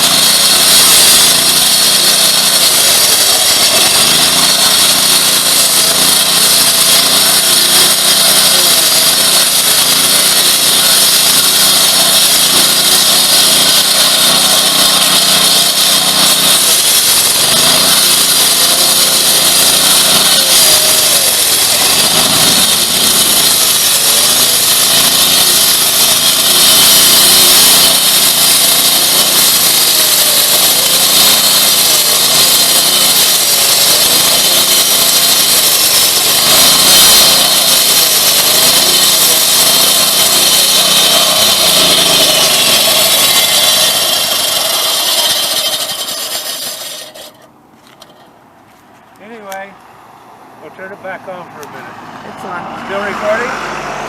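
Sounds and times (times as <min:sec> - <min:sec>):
asphalt saw cutting pavement: 0:00.0 - 0:54.0.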